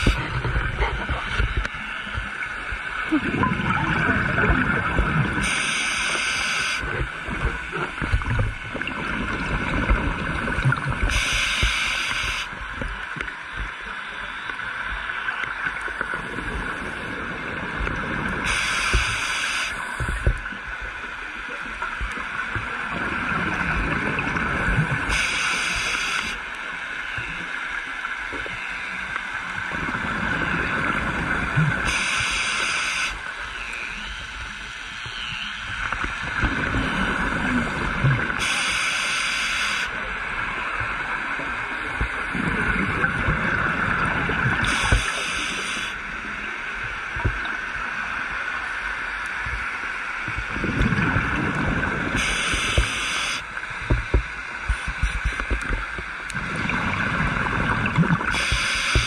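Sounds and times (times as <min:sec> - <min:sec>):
exhaled bubbles underwater: 0:00.0 - 0:13.7, 0:21.5 - 0:26.3, 0:29.4 - 0:48.6, 0:49.4 - 0:59.0
underwater hiss and rumble: 0:00.0 - 0:59.0.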